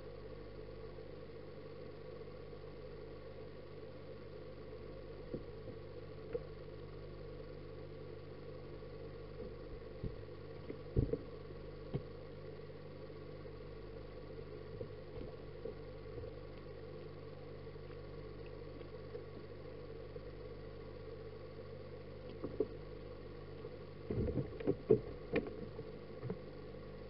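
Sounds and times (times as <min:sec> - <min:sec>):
aquarium pump hum underwater: 0:00.0 - 0:27.0.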